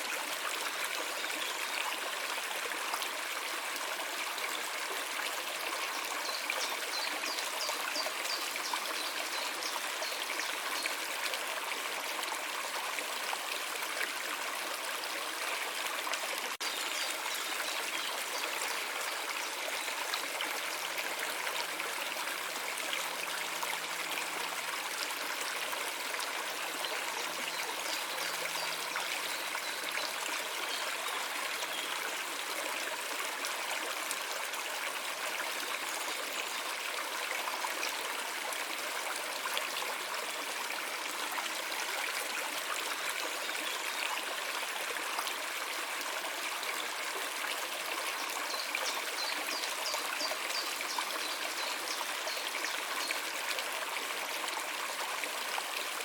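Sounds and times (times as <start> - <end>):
stream of water trickling: 0.0 - 56.0.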